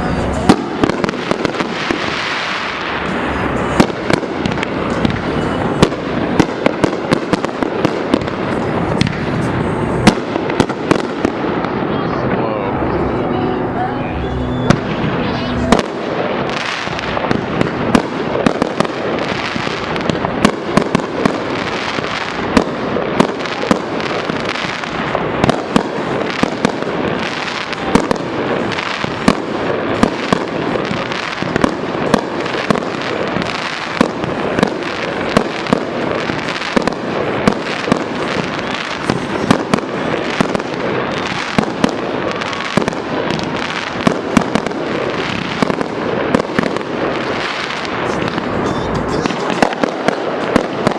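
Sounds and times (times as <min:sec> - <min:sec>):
fireworks crackling: 0:00.0 - 0:50.9
fireworks pops and bangs: 0:00.4 - 0:12.2, 0:14.7 - 0:50.9.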